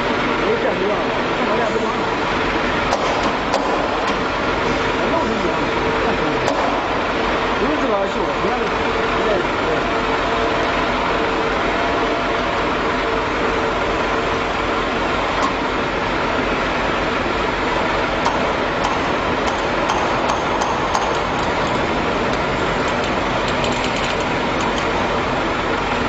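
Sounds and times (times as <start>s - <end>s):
steady machinery noise: 0.0s - 26.0s.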